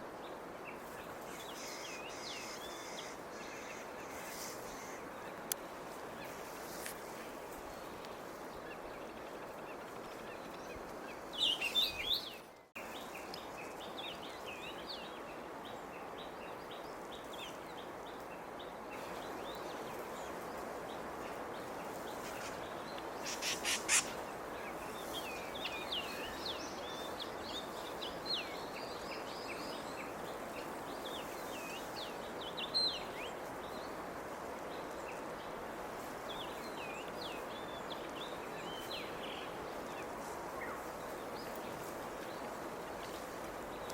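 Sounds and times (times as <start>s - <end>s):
songbirds chirping: 0.0s - 43.9s
steady outdoor hiss: 0.0s - 43.9s.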